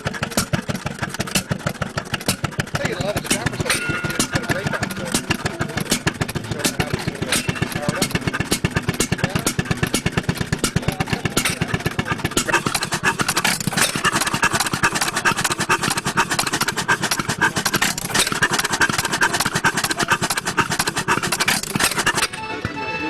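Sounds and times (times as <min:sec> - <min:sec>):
tractor engine running: 0:00.0 - 0:22.8.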